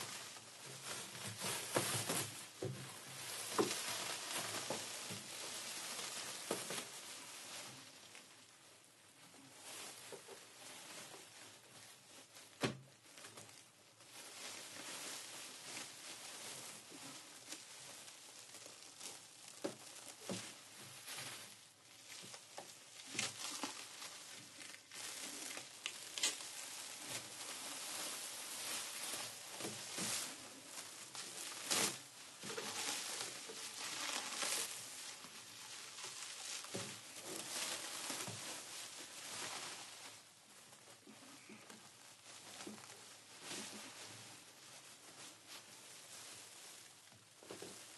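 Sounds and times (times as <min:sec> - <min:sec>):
plastic sheeting crinkling: 0:00.0 - 0:47.9.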